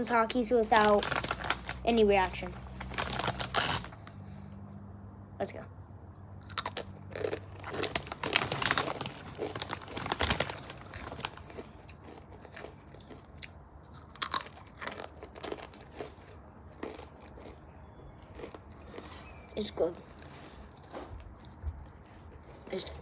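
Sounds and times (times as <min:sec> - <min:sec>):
crunchy chips being chewed: 0:00.6 - 0:01.9, 0:02.6 - 0:04.0, 0:06.4 - 0:23.0.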